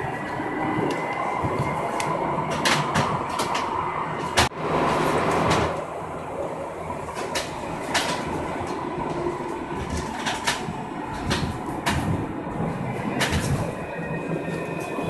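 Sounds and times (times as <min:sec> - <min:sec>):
tram running along track: 0:00.0 - 0:15.0.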